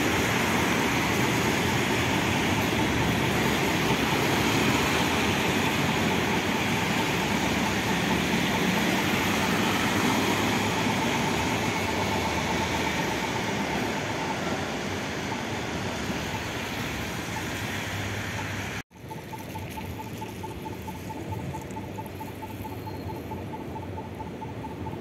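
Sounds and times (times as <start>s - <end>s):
rapid beeping: 0.0s - 16.7s, 19.0s - 25.0s
street background noise: 0.0s - 25.0s
train on viaduct: 0.0s - 25.0s.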